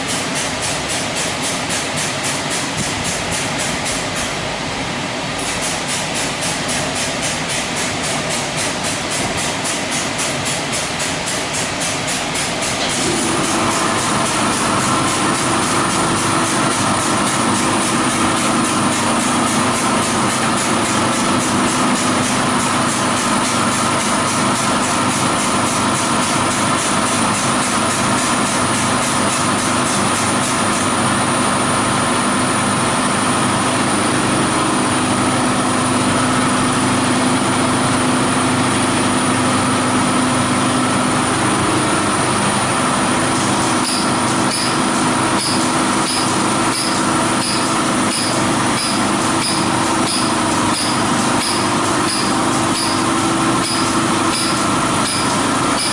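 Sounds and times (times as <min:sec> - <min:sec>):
machine whine: 0:00.0 - 0:55.9.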